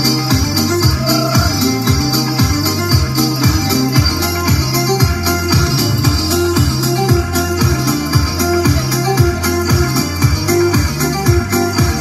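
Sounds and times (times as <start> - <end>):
bass line: 0.0 - 12.0
pop backing track over loudspeakers: 0.0 - 12.0.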